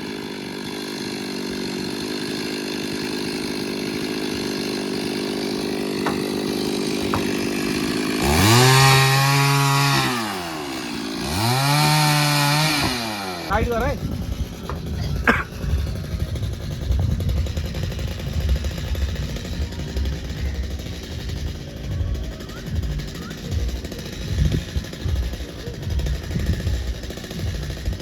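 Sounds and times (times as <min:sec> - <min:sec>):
chainsaw running and revving: 0:00.0 - 0:28.0.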